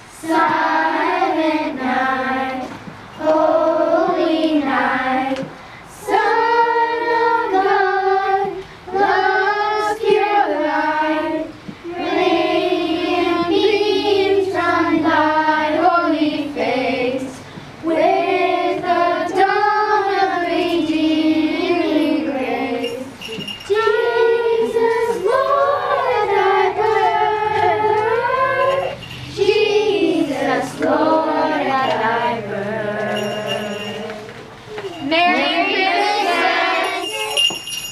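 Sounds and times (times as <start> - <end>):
young girls singing a carol: 0.0 - 37.6.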